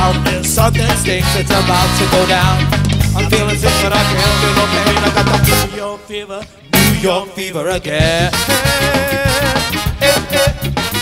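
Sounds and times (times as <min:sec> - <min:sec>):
ska band playing: 0:00.0 - 0:11.0
horn section: 0:01.1 - 0:07.2, 0:08.1 - 0:11.0.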